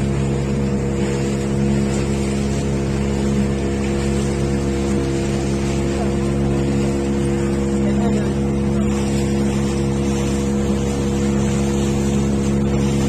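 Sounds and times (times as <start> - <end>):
motorboat engine drone: 0.0 - 13.0
rushing water and air: 0.0 - 13.0.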